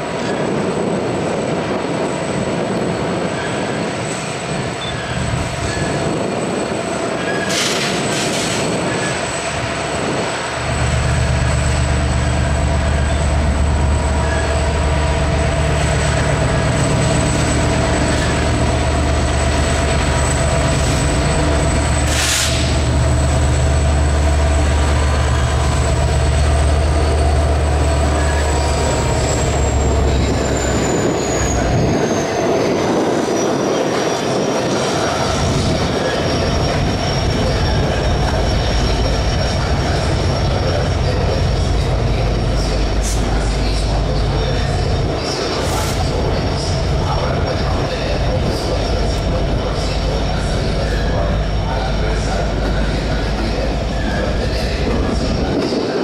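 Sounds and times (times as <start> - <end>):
diesel locomotive rumble: 0.0 - 56.0
high wheel squeal: 2.7 - 56.0.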